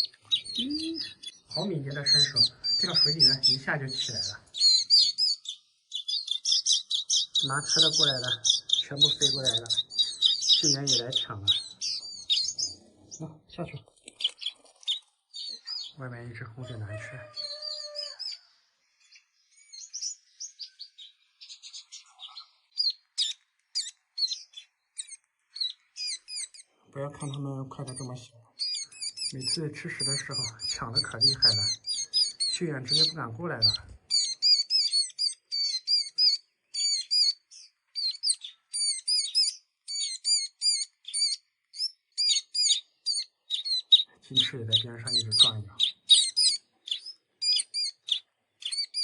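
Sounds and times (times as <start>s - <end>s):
songbirds chirping: 0.0s - 49.0s.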